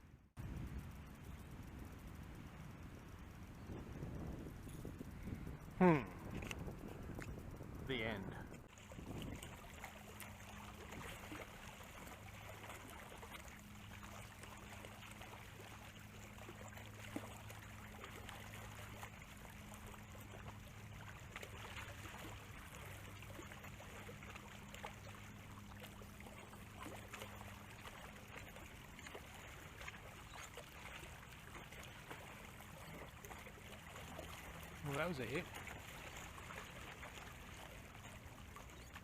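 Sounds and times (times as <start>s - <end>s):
low steady hum: 0.0s - 39.0s
small ticks and crackles: 0.4s - 39.0s
water lapping at shore: 2.1s - 39.0s.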